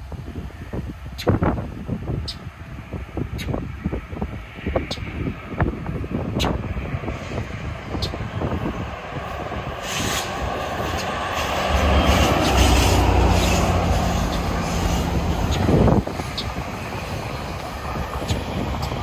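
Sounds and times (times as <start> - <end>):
diesel locomotive engine drone: 0.0 - 19.0
train coaches rumbling by: 2.2 - 19.0.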